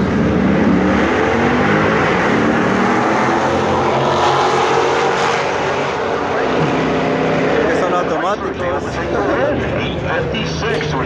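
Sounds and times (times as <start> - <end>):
racing car engines revving: 0.0 - 11.0.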